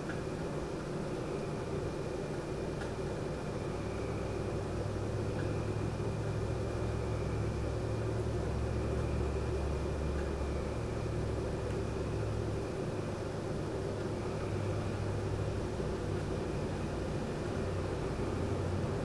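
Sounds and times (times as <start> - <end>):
air conditioner fan humming: 0.0 - 19.0.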